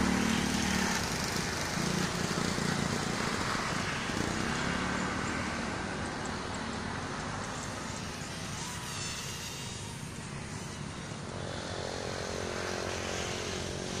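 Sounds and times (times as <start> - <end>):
quadcopter propellers whining: 0.0 - 14.0.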